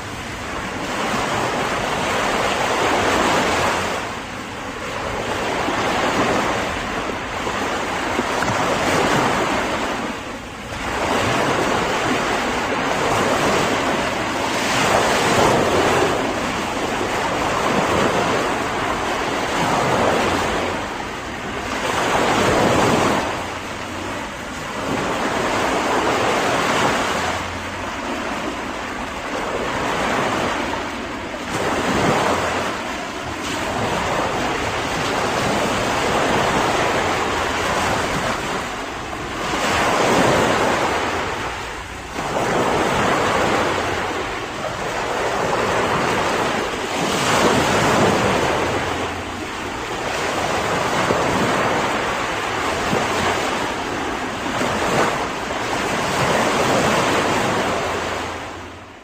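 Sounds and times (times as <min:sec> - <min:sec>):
ocean waves breaking: 0:00.0 - 0:59.0
wind: 0:00.0 - 0:59.0.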